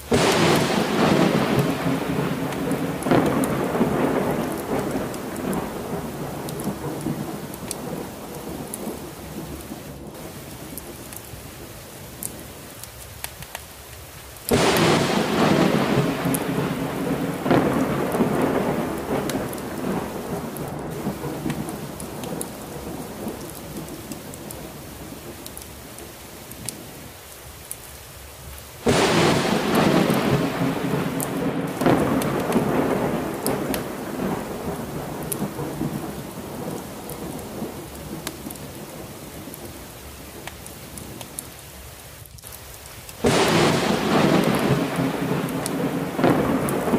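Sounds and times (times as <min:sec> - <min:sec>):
thunder rumbling: 0:00.0 - 0:12.5, 0:14.5 - 0:26.2, 0:28.8 - 0:41.2, 0:43.2 - 0:46.9
heavy rain: 0:00.0 - 0:46.9.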